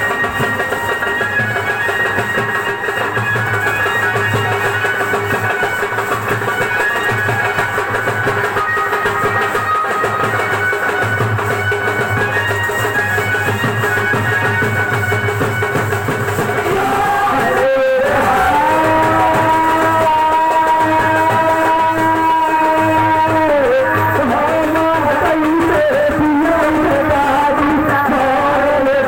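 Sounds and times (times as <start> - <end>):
loud music with busy drum beat: 0.0 - 29.0
music with long held notes: 0.0 - 29.0.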